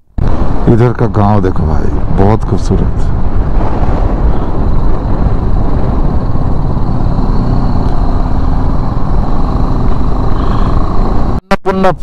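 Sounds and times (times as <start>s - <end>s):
motorcycle engine rumble: 0.1s - 11.4s
wind buffeting microphone: 0.2s - 11.4s.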